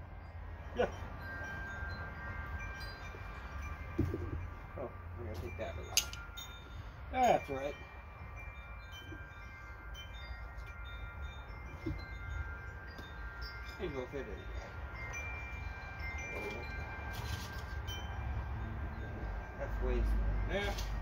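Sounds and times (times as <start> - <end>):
chime-like ringing: 0.0 - 21.0.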